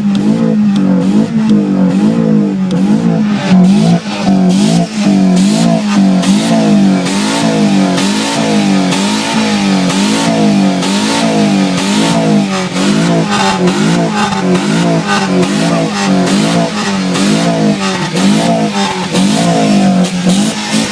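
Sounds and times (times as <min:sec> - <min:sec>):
engine revving hard: 0:00.0 - 0:20.9.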